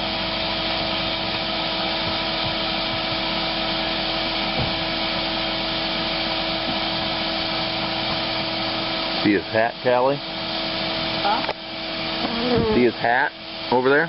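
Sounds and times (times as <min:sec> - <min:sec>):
vacuum running with whine: 0:00.0 - 0:14.0.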